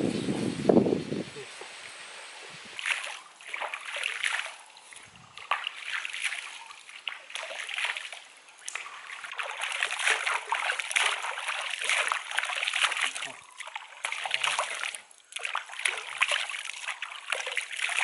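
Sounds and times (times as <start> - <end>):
hands splashing stream water: 2.7 - 18.0
water dripping: 2.8 - 18.0.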